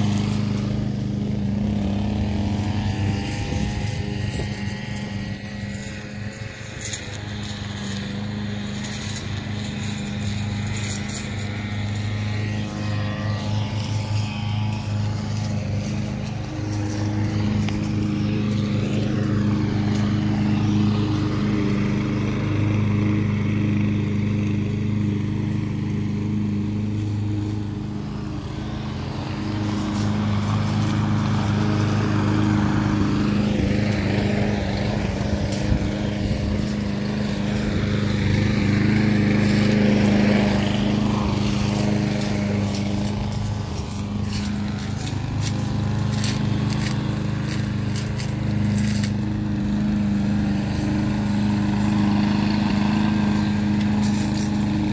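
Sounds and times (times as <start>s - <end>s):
brush cutter engine running: 0.0s - 54.9s
lawn mower engine running: 0.0s - 54.9s.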